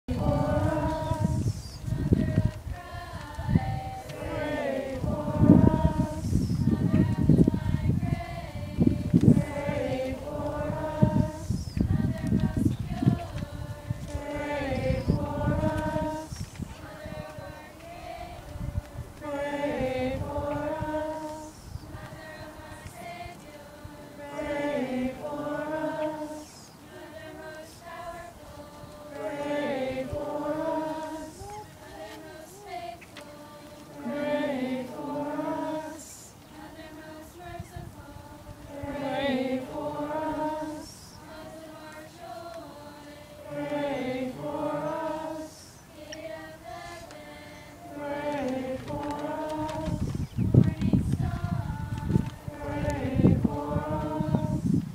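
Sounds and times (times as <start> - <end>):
group singing a hymn: 0.0 - 54.9.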